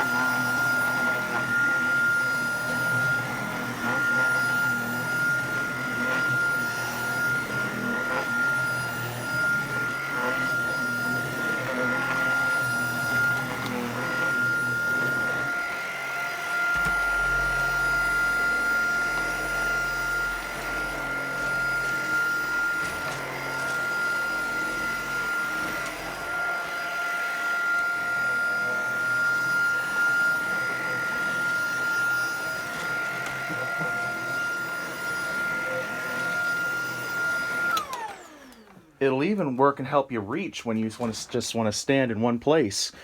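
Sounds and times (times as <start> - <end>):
stick vacuum whine: 0.0 - 39.6.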